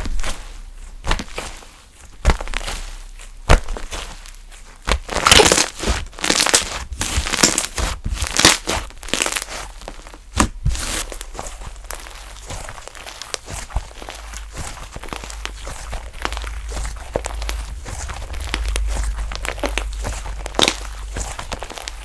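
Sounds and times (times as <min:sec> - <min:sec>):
slime crackling squishes: 0:00.0 - 0:22.0.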